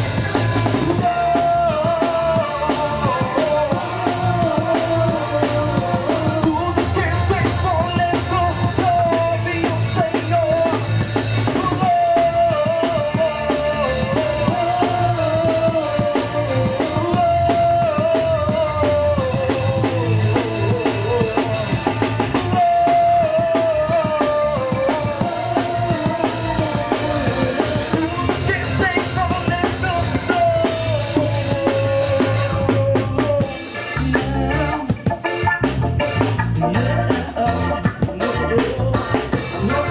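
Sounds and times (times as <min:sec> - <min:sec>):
band playing up-tempo song: 0:00.0 - 0:39.9
drum kit beat: 0:00.0 - 0:39.9.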